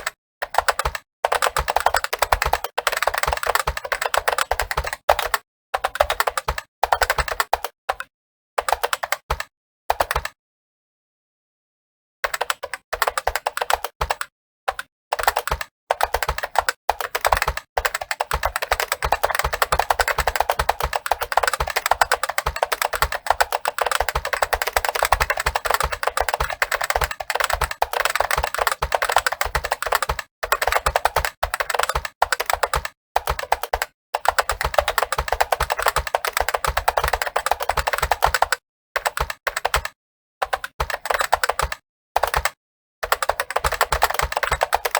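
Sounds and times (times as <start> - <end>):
keyboard typing: 0.0 - 10.4, 12.2 - 44.9.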